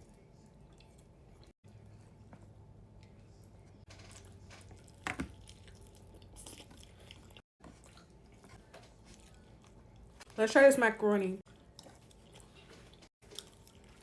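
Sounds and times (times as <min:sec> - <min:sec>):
faint chewing: 0:00.0 - 0:10.3, 0:11.5 - 0:14.0.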